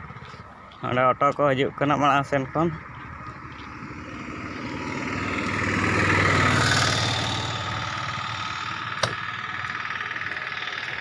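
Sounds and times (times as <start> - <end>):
auto-rickshaw passing: 0.0 - 11.0.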